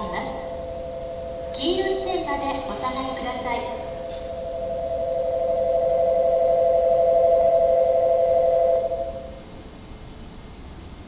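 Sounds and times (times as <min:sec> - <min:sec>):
two-tone electronic bell ringing: 0:00.0 - 0:09.3.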